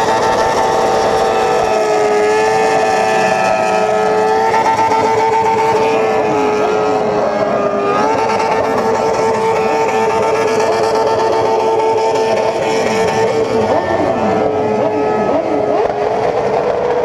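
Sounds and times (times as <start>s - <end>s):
motorcycle engine at high revs: 0.0s - 17.0s
other engines rising and falling: 0.0s - 17.0s.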